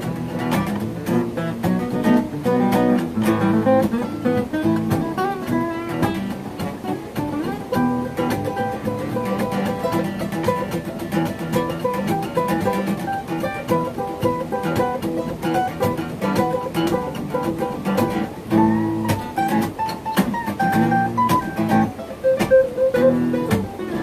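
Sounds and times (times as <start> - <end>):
acoustic guitar blues: 0.0 - 24.0.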